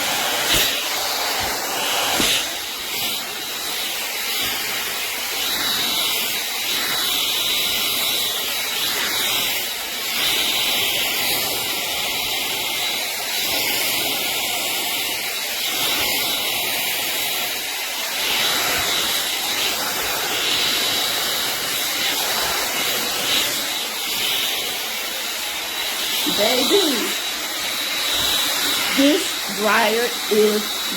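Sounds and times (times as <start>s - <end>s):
hot air dryer brush running: 0.0s - 30.9s.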